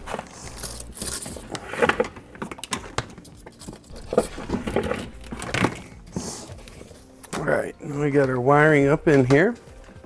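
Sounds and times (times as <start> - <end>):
wire scraping and rustling: 0.0 - 8.4.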